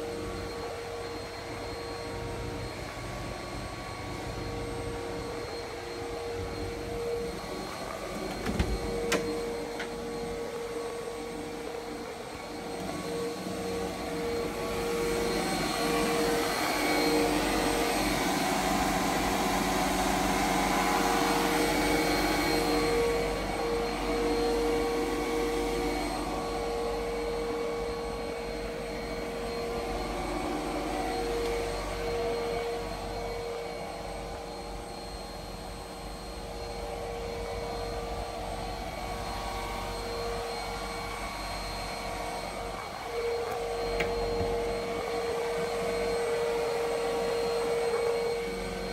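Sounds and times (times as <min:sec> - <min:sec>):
blower motor hum: 0:00.0 - 0:48.9.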